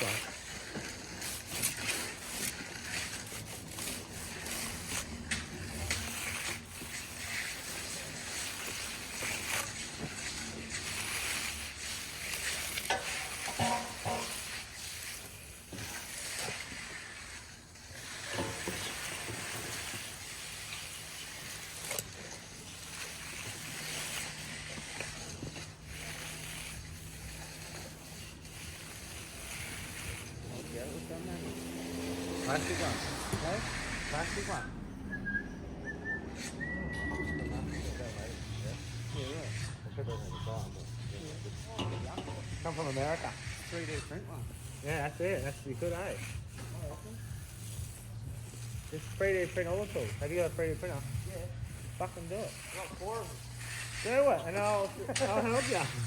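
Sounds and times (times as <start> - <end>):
tools scraping wet concrete: 0.0 - 56.0.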